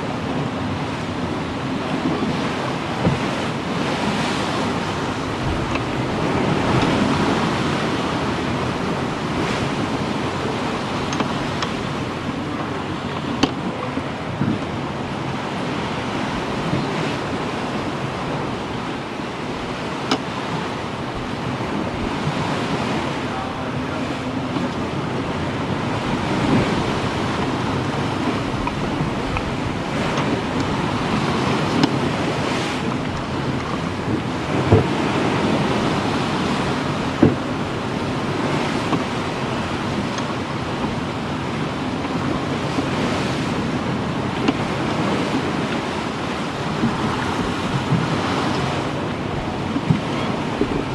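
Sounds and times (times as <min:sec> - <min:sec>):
sea water washing: 0:00.0 - 0:50.9
wind noise: 0:00.0 - 0:50.9.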